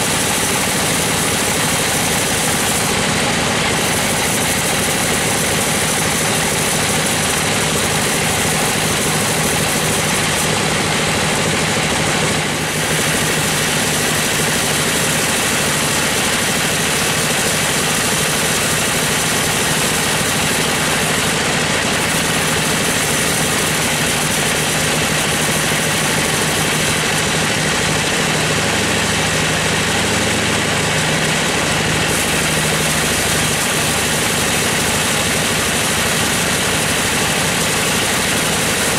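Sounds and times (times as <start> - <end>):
bandsaw ripping through log: 0.0 - 10.8, 12.4 - 27.7, 32.0 - 38.9
machine drone: 0.0 - 38.9.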